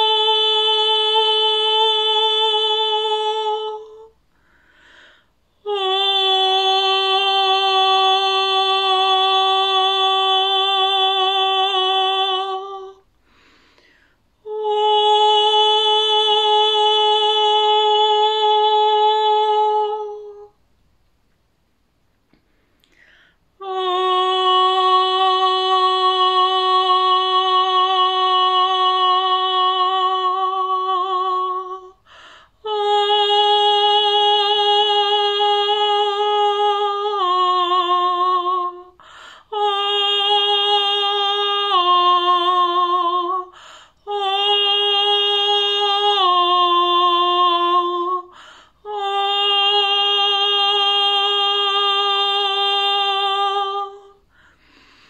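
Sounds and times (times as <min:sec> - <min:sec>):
woman singing wordless tones: 0:00.0 - 0:04.2, 0:05.5 - 0:13.2, 0:14.3 - 0:20.6, 0:22.9 - 0:55.0.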